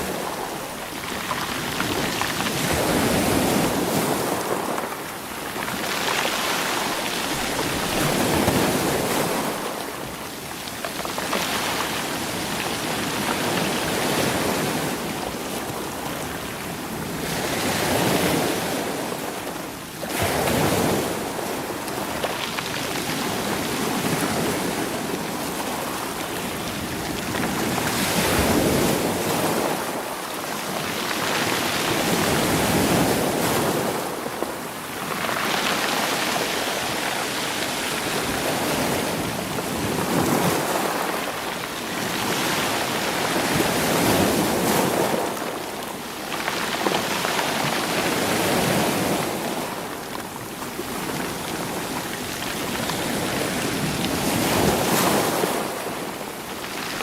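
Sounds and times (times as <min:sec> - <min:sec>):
sea waves washing against rocks: 0:00.0 - 0:57.0.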